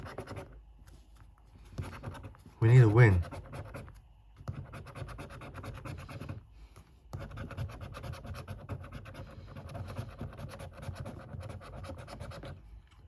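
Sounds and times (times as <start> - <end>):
scratch card being scratched: 0.0 - 0.6, 1.8 - 6.4, 7.2 - 12.6.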